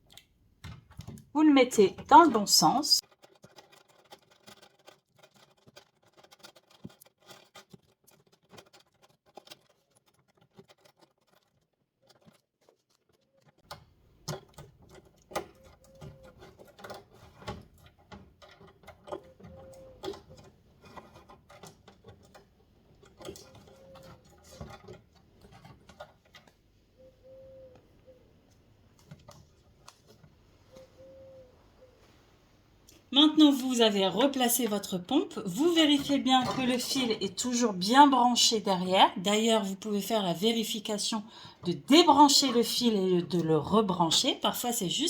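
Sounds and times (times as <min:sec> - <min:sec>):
plastic parts clicking and rustling: 0:00.0 - 0:02.4, 0:03.0 - 0:31.4, 0:32.8 - 0:38.1.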